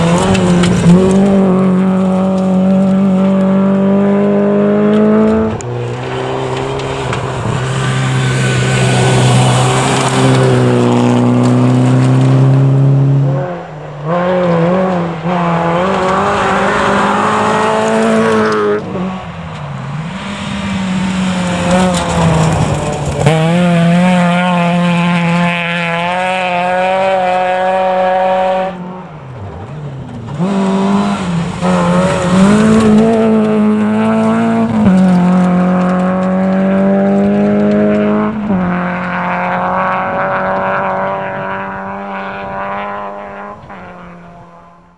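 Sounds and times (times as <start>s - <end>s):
rally car engines at high revs: 0.0s - 44.9s.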